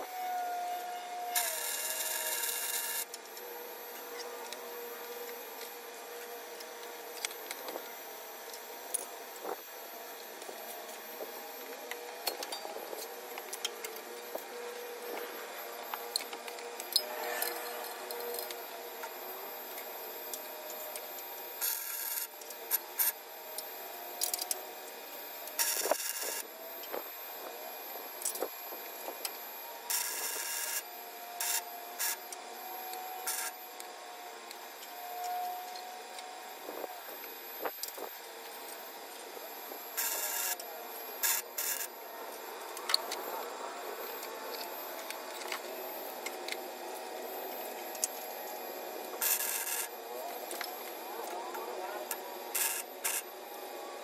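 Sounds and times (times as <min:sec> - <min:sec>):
crackling electric welding: 0:00.0 - 0:54.0.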